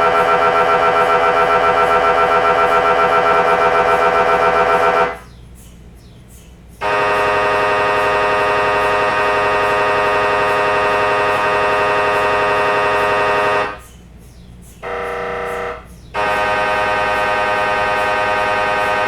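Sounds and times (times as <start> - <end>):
mri scanner buzzing: 0.0 - 5.3, 6.8 - 13.8, 14.8 - 19.0.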